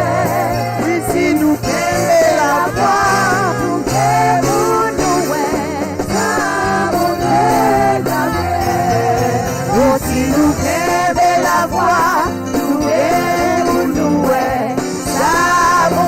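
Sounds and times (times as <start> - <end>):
instrumental accompaniment: 0.0 - 16.0
voices singing slow melody: 0.0 - 16.0.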